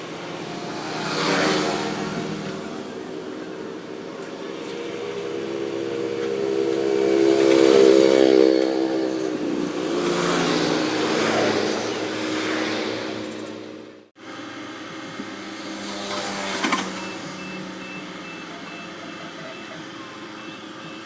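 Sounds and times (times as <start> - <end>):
earthmoving machinery diesel engine: 0.0 - 21.0.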